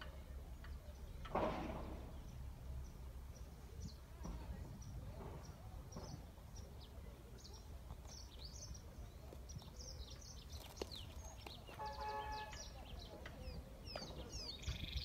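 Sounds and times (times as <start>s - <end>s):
small birds chirping: 2.0s - 15.0s.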